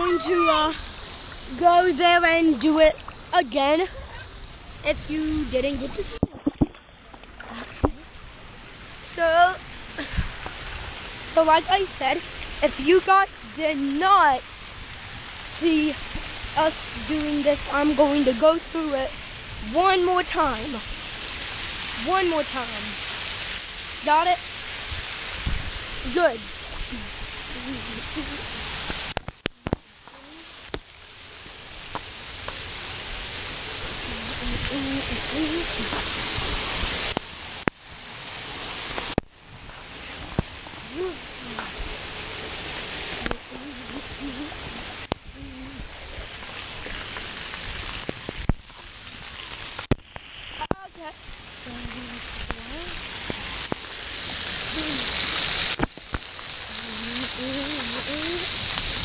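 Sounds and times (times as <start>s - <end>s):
water spraying and pouring: 8.9s - 59.0s.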